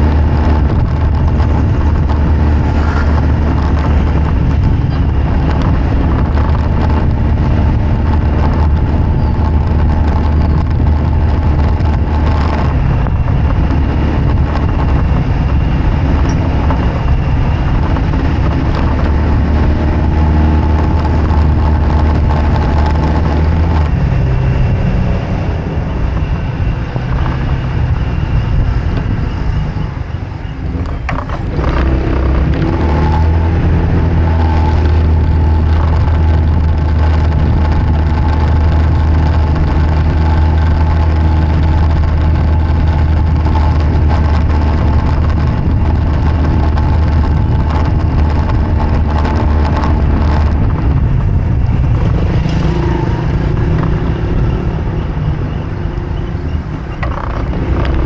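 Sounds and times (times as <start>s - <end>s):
tyre and wind noise: 0.0s - 58.0s
vehicle engine running: 0.0s - 58.0s.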